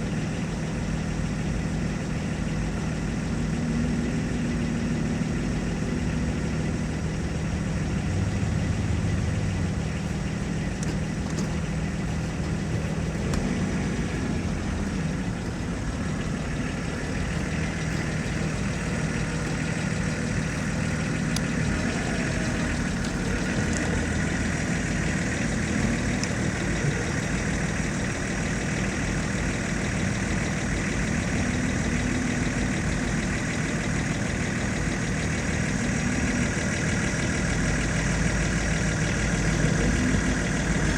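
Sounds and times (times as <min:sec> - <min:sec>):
vehicle engines idling: 0:00.0 - 0:40.9.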